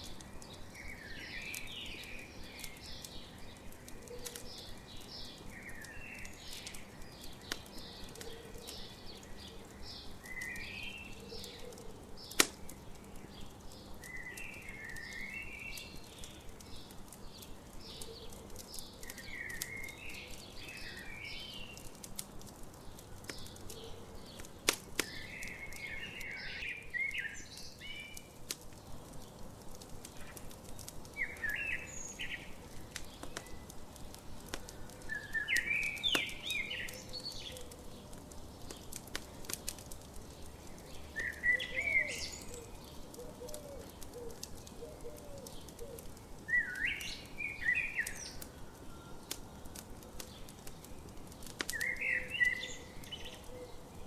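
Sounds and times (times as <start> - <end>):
birds singing: 0.0 - 54.0
campfire crackling and popping: 0.0 - 54.0.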